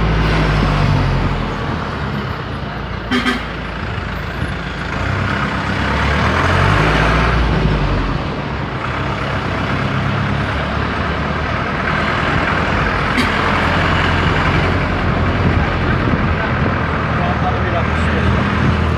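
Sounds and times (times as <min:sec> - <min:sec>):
minibus engine running: 0:00.0 - 0:18.9
road and tyre noise: 0:00.0 - 0:18.9.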